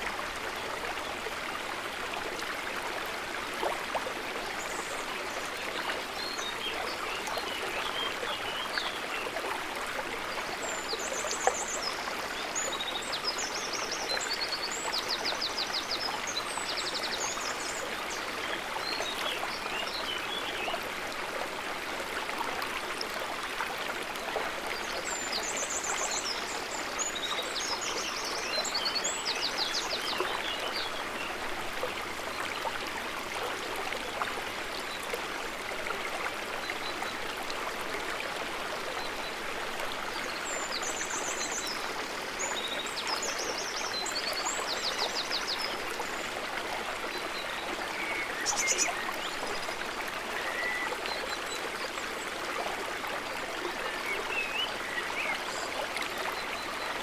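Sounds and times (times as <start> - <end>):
river water running: 0.0 - 57.0.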